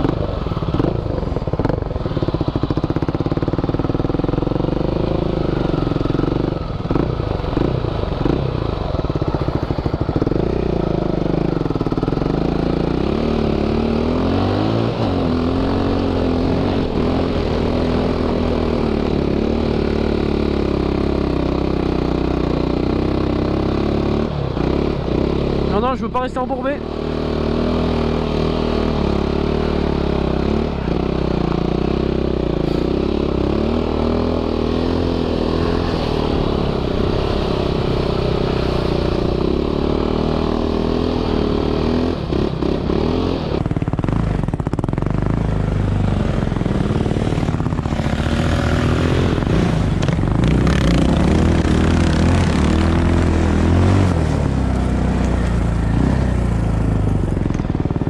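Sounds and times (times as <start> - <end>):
quad bike engine under load: 0.0 - 58.0.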